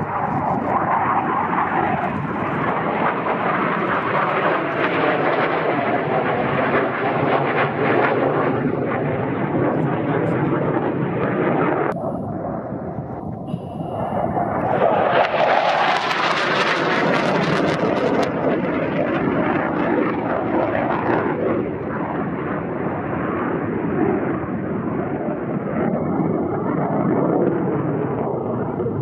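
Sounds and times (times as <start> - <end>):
jet fighter passing low: 0.0 - 29.0.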